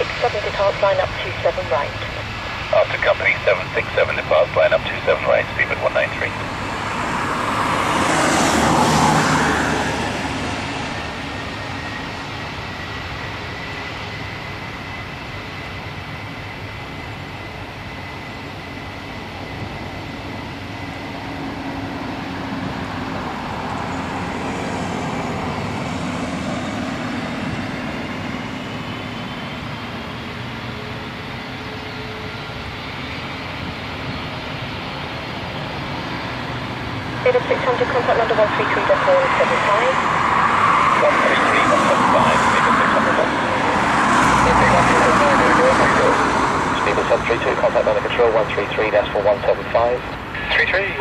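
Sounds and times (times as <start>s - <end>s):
jet engines rumbling and whining: 0.0s - 51.0s.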